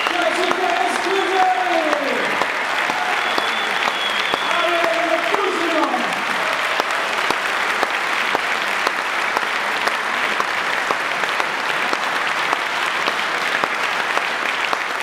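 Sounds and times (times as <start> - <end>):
audience applause: 0.0 - 15.0.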